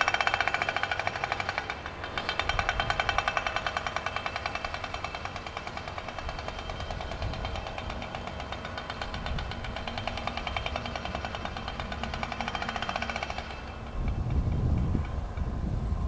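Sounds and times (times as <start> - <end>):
helicopter rotor beating: 0.0 - 16.0
turbine whine: 0.0 - 16.0.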